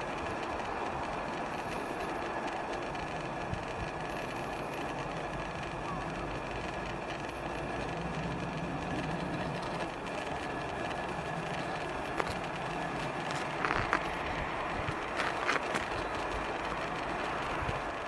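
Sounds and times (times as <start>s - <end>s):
outdoor background rumble: 0.0s - 18.0s.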